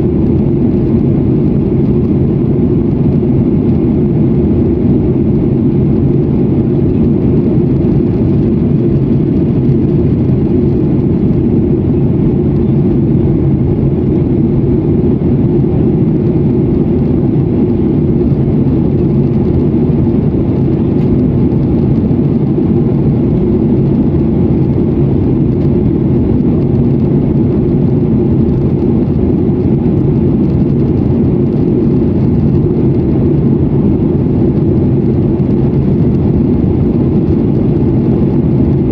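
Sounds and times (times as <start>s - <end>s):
jet airliner cabin noise: 0.0s - 38.9s.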